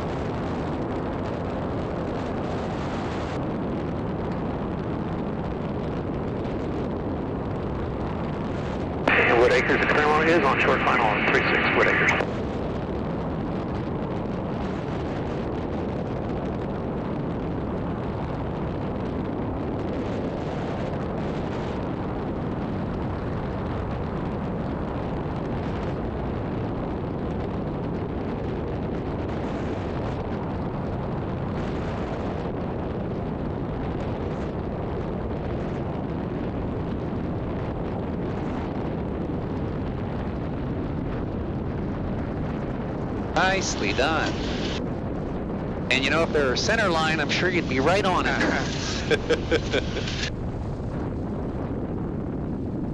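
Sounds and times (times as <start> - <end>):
light airplane engine and airflow: 0.0 - 52.9.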